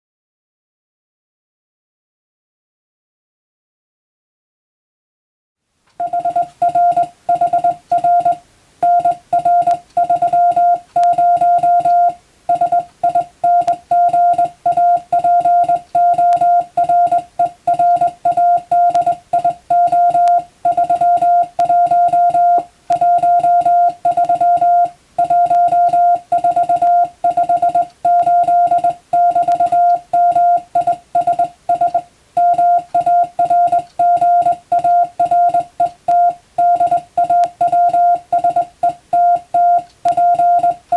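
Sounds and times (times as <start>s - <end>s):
morse code beeps: 6.0s - 40.9s.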